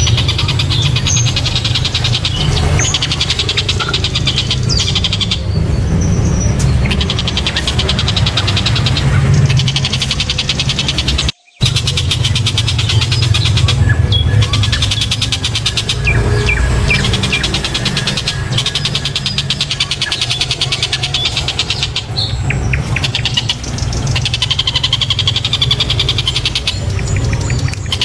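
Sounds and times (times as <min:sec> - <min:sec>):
kingfisher rattling call: 0:00.0 - 0:28.0.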